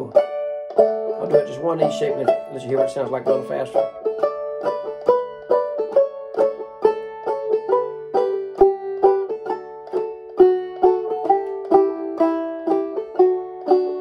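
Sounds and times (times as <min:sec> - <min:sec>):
banjo playing a scale: 0:00.0 - 0:14.0.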